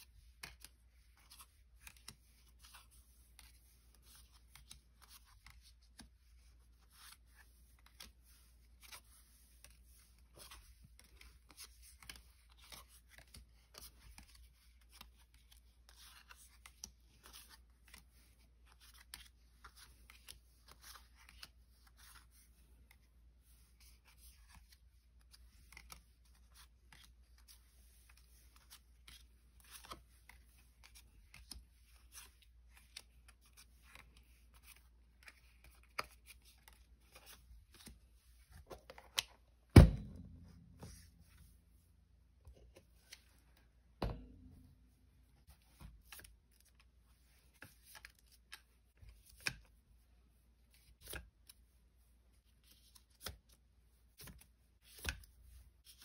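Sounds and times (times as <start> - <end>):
trading cards being handled: 0.0 - 49.7.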